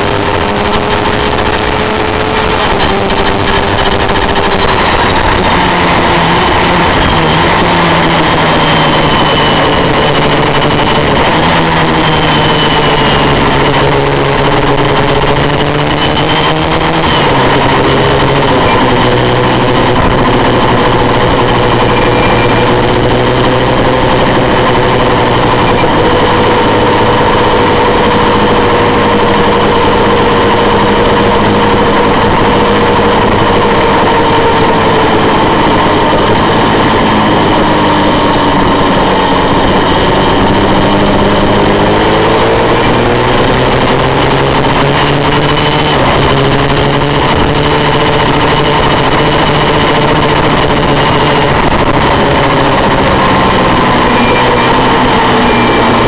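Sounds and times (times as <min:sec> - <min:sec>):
motorcycle engine running hard: 0:00.0 - 0:56.0
rushing wind: 0:00.0 - 0:56.0.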